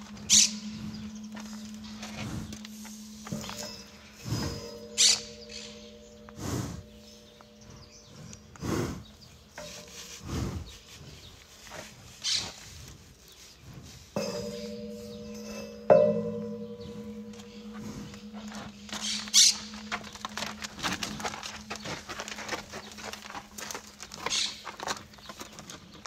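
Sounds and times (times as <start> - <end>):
rhinoceros breathing and snorting: 0.0 - 15.9, 16.9 - 24.7.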